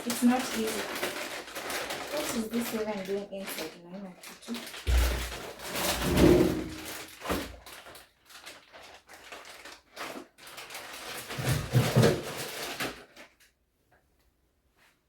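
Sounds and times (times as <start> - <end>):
items handled in a refrigerator: 0.0 - 14.0.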